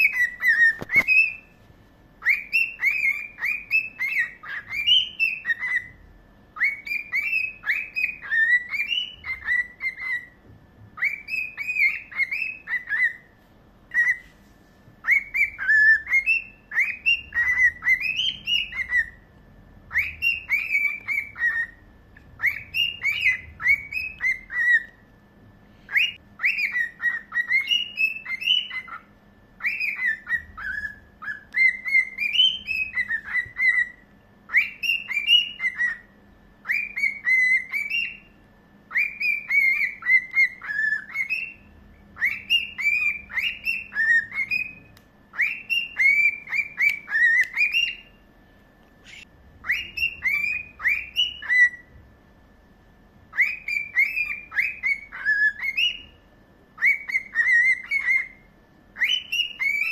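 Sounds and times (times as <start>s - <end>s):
cockatiel whistling: 0.0s - 1.6s, 2.2s - 13.3s, 13.9s - 14.4s, 15.0s - 25.0s, 25.8s - 48.2s, 49.0s - 52.0s, 53.3s - 56.2s, 56.8s - 59.9s.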